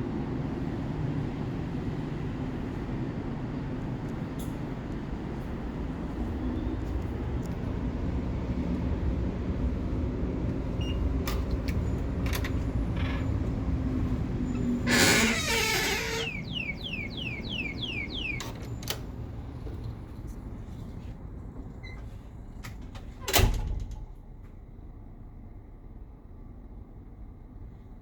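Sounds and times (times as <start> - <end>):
low vehicle rumble: 5.1 - 27.7.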